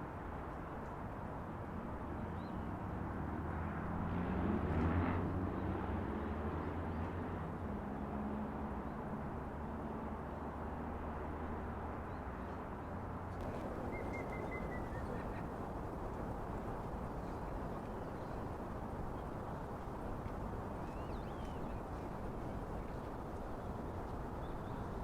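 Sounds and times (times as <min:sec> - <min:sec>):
city traffic: 0:01.8 - 0:25.0.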